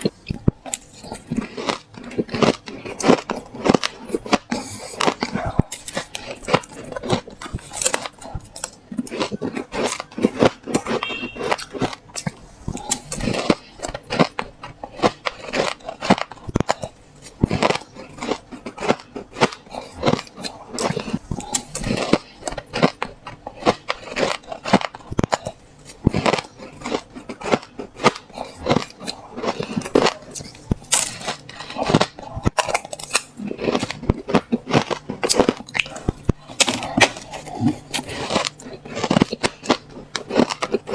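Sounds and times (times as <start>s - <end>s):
person chewing ice crunches: 0.0s - 40.9s.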